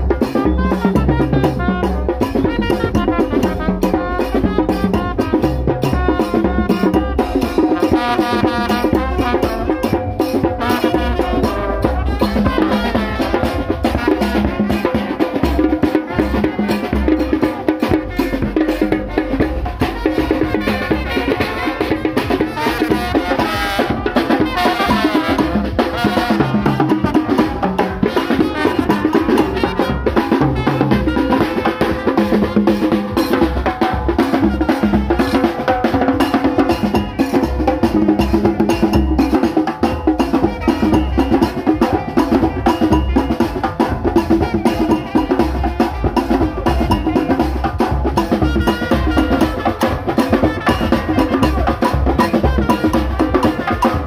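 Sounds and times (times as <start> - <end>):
bass drum beat: 0.0 - 54.0
brass band playing: 0.0 - 54.0
stick-beaten drums: 0.0 - 54.0.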